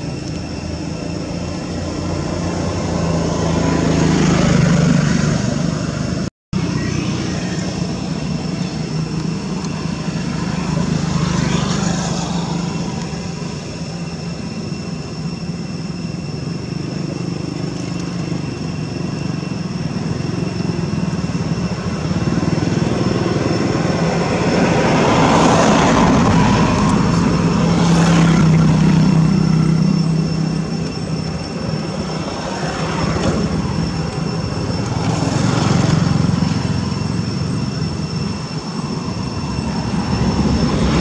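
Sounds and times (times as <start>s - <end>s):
motor engine drone: 0.0s - 41.0s.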